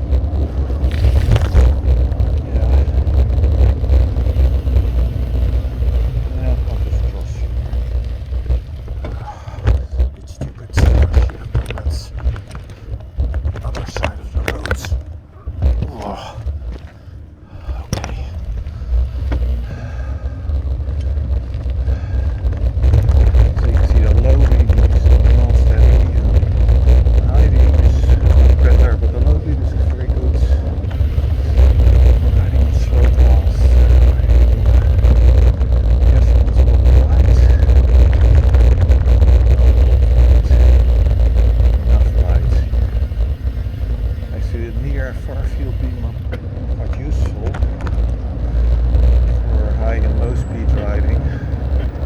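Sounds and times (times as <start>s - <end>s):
rattling: 0.0s - 49.6s
low rumble of wind and road: 0.0s - 52.0s.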